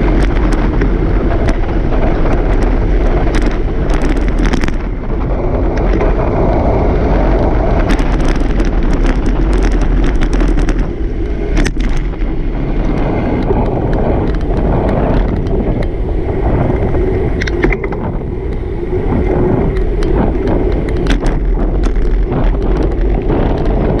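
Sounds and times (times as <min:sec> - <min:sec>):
clicks and knocks from bumps: 0:00.0 - 0:16.0, 0:17.4 - 0:18.6, 0:19.7 - 0:24.0
road rumble: 0:00.0 - 0:24.0
wind buffeting microphone: 0:00.0 - 0:24.0.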